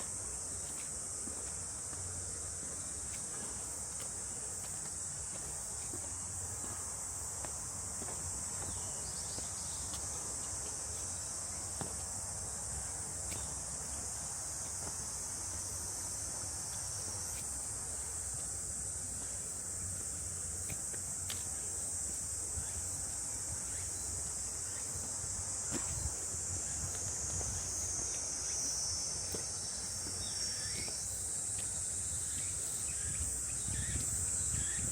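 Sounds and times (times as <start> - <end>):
insects buzzing: 0.0 - 34.9.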